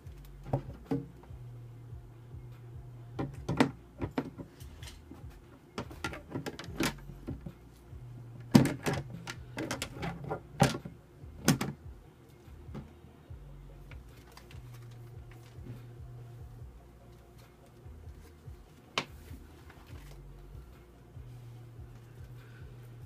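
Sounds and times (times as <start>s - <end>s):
low hum: 0.0s - 4.0s, 6.7s - 23.0s.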